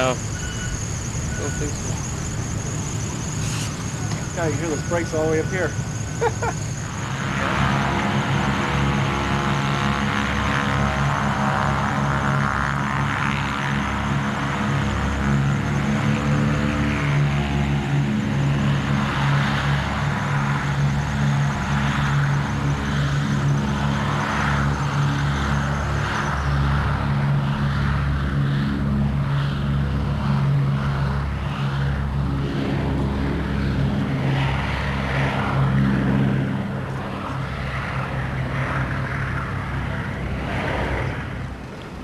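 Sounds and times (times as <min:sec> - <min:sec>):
propeller aircraft engines droning: 0:00.0 - 0:42.0.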